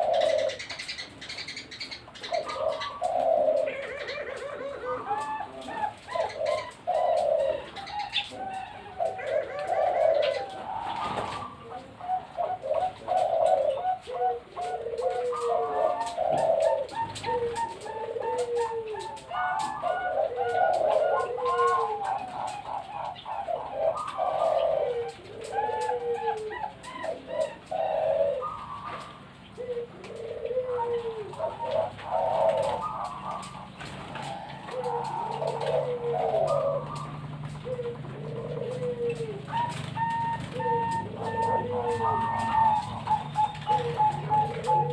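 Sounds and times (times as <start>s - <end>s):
doves cooing: 0.0s - 44.9s.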